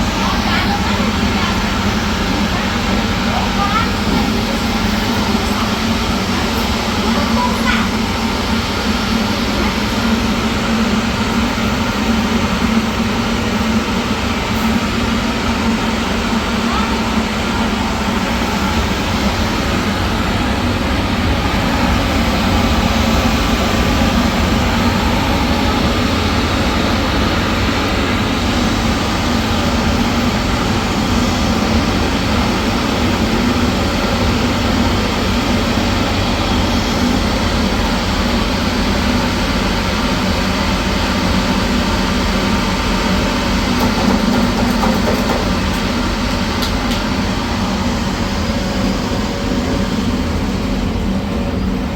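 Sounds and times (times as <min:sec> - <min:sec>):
machinery running: 0:00.0 - 0:51.9.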